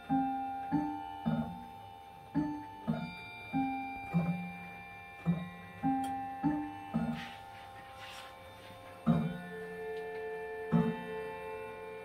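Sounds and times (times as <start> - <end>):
wall clocks chiming melody: 0.0 - 12.0.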